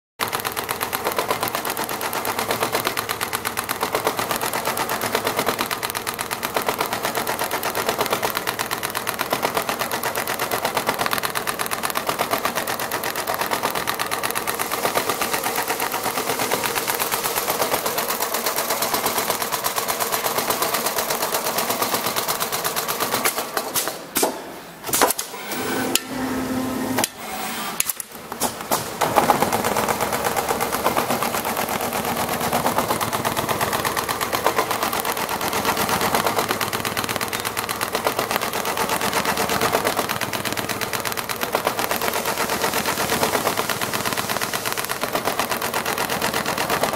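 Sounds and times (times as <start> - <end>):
sewing machine stitching: 0.2 - 24.3, 24.9 - 46.9.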